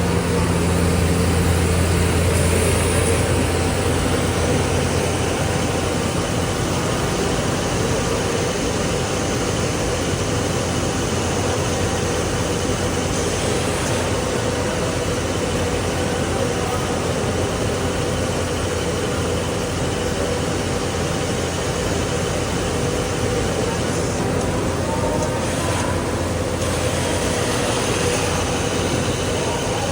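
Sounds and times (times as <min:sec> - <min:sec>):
cutting machine running: 0:00.0 - 0:29.9.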